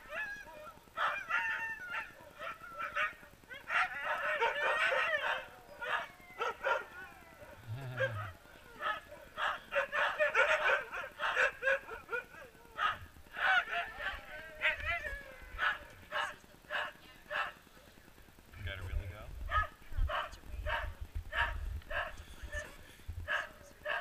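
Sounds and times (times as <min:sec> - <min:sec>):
sled dogs barking and yelping: 0:00.0 - 0:18.0, 0:19.4 - 0:24.0.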